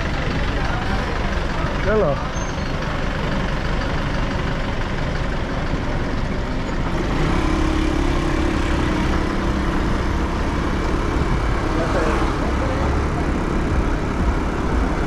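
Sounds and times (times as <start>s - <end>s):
road noise: 0.0s - 15.0s
scooter engine running: 2.8s - 15.0s.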